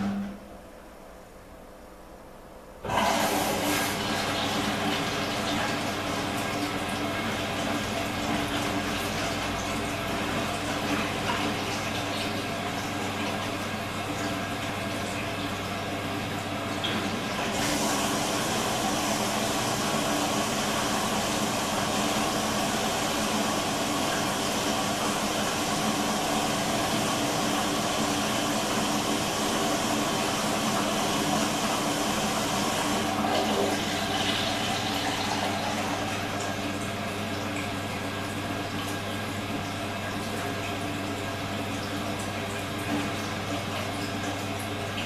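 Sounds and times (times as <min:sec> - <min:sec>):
water rushing into washing machine: 0:02.8 - 0:45.0.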